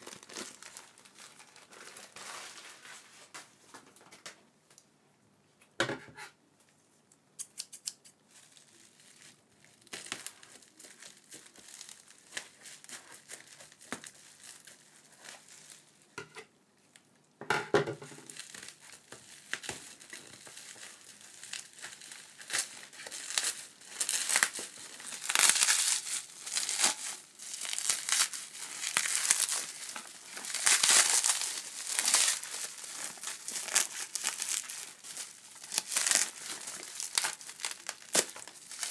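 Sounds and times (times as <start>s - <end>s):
bubble wrap crinkling: 0.0s - 3.6s, 8.2s - 16.2s, 18.0s - 38.9s.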